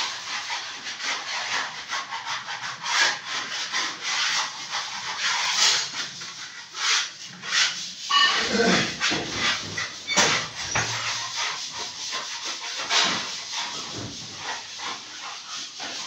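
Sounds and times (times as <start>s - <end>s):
sandpaper rubbing on wall: 0.0s - 16.0s.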